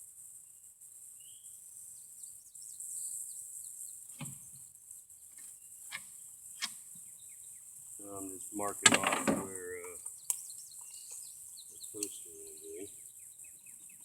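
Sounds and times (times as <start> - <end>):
bird chirps: 1.2 - 4.6, 5.3 - 14.0.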